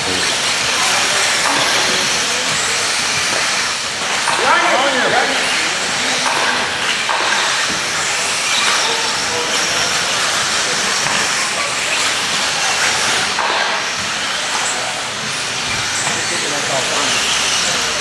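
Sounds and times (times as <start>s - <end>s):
rc car motors whirring: 0.0s - 18.0s
thin motor whines: 0.0s - 18.0s.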